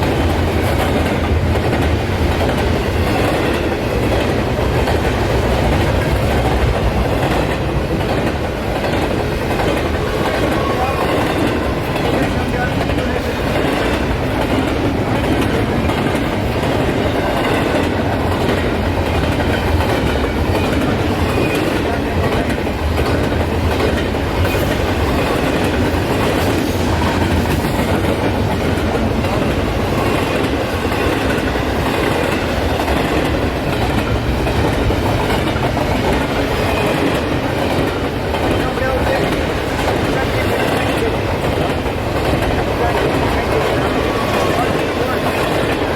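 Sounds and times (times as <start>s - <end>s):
train wheels on rails: 0.0s - 45.9s.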